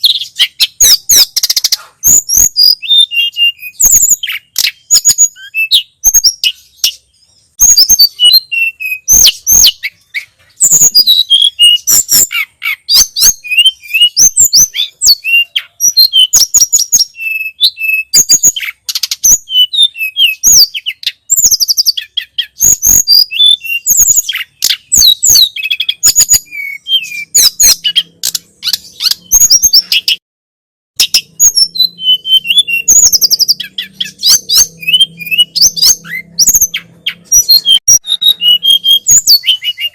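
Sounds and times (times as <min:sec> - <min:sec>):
bird chirping and trilling: 0:00.0 - 0:30.2, 0:31.0 - 0:39.9.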